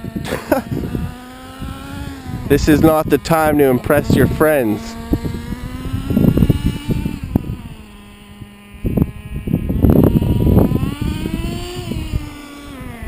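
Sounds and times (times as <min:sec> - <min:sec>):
low rumbling noise: 0:00.0 - 0:13.0
nitro engine buzzing: 0:00.0 - 0:13.0.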